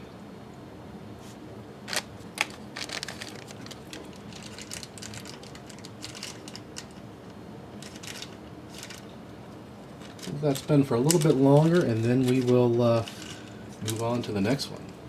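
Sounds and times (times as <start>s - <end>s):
light clicks and crinkling: 1.9s - 9.1s, 9.9s - 15.0s.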